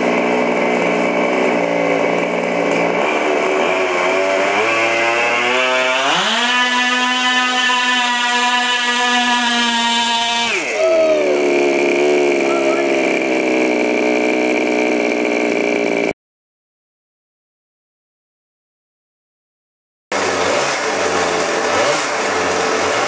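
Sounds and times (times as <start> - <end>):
small gas engine revving: 0.0 - 16.2, 20.1 - 23.0.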